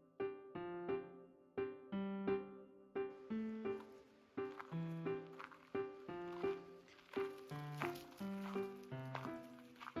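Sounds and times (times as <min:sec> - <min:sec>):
gentle keyboard melody: 0:00.0 - 0:10.0.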